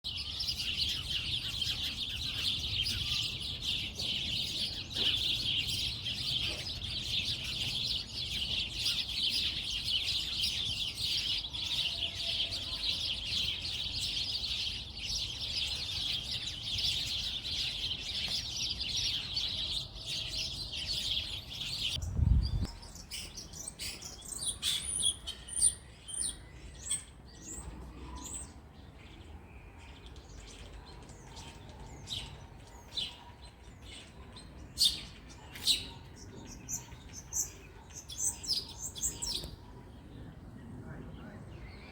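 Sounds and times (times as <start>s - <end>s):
chorus of birds chirping: 0.0s - 41.9s.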